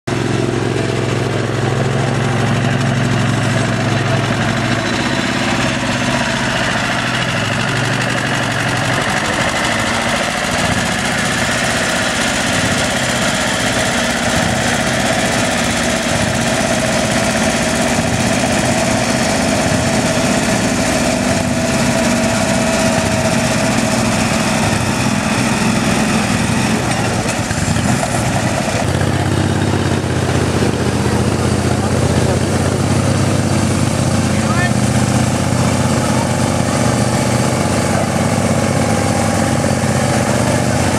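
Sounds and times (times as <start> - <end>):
garden tractor engine running: 0.1 - 40.9.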